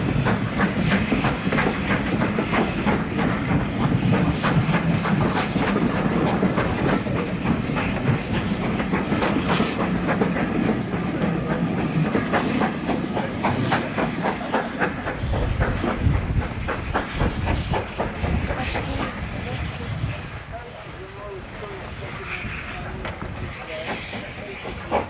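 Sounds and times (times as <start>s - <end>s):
train wheels clattering over rails: 0.0s - 19.8s, 21.2s - 25.0s
steam hissing: 0.0s - 25.0s.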